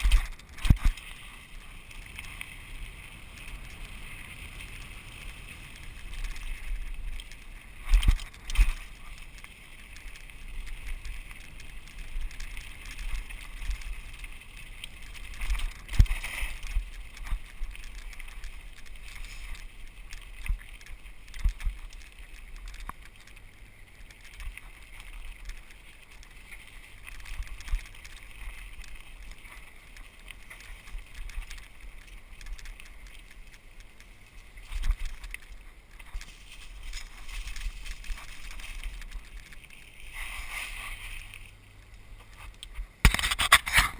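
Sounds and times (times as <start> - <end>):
bike rattling and jolting: 0.0 - 43.9
bike tyres on gravel: 0.0 - 43.9.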